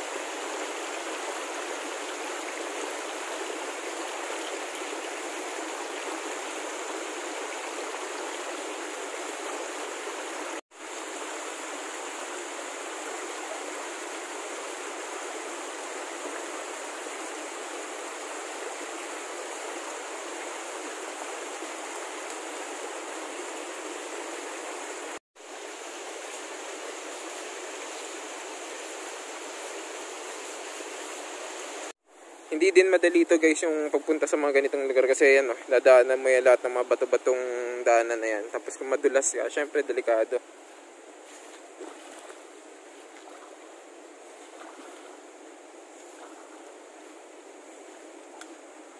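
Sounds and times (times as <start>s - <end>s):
creek rushing over stones: 0.0s - 48.9s.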